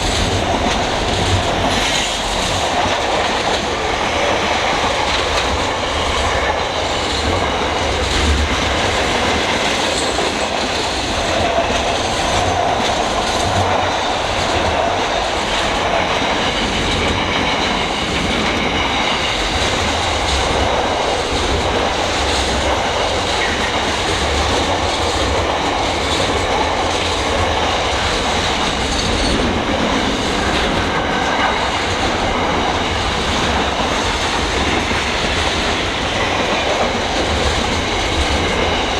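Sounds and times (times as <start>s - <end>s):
train wheels clacking on rail joints: 0.0s - 38.9s
wheels squealing on rails: 0.0s - 38.9s.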